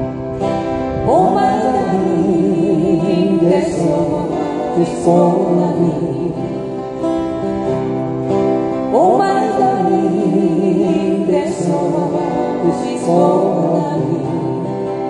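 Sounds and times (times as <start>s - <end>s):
acoustic guitars strumming: 0.0s - 15.0s
person singing with vibrato: 0.0s - 15.0s.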